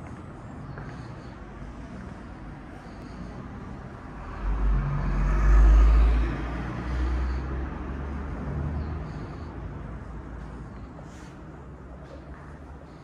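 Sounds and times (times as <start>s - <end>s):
road vehicle passing by: 0.7s - 13.0s.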